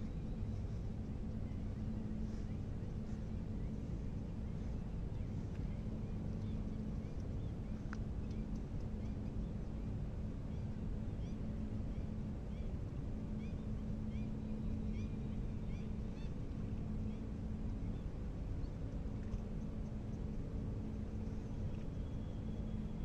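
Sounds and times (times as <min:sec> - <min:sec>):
low hum: 0:00.0 - 0:23.0
low outdoor rumble: 0:00.0 - 0:23.0.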